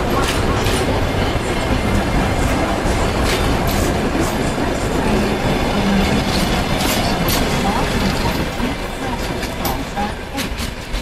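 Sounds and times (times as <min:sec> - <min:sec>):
train wheels rolling on rails: 0:00.0 - 0:11.0
wheels clicking over rail joints: 0:00.0 - 0:11.0.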